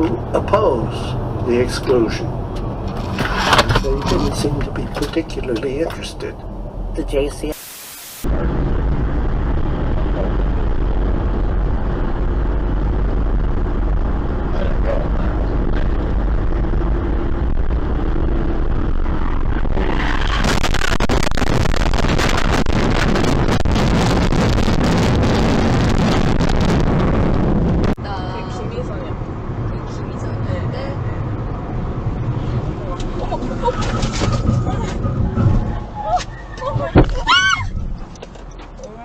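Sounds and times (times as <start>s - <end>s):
car engine and road noise: 0.0s - 39.0s
rushing noise with crackling: 0.0s - 39.0s.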